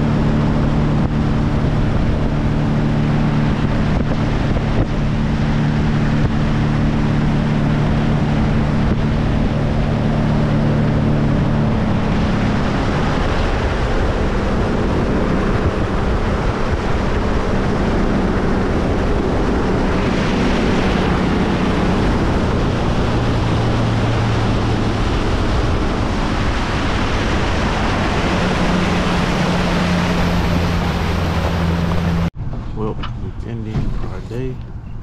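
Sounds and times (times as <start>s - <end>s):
wind and water spray rushing: 0.0s - 34.9s
boat motor droning: 0.0s - 35.0s.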